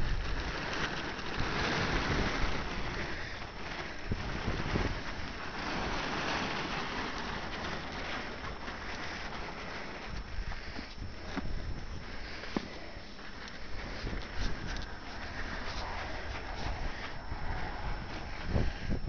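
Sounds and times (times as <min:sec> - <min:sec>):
tarp flapping in wind: 0:00.0 - 0:19.0
wind buffeting microphone: 0:00.0 - 0:19.0.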